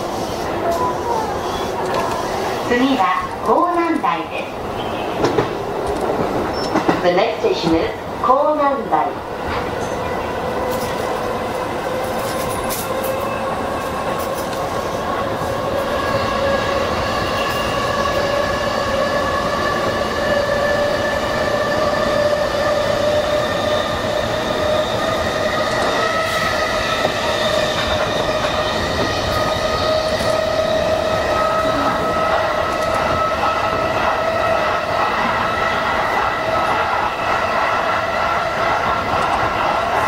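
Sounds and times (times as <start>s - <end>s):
train rolling rumble: 0.0s - 40.0s.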